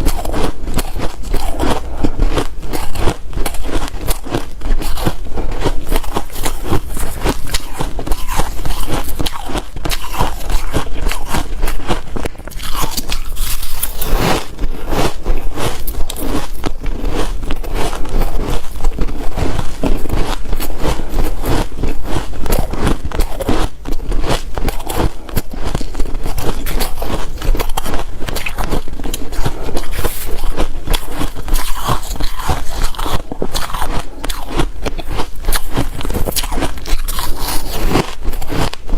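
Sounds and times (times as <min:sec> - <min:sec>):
crunching ice while chewing: 0:00.0 - 0:38.9.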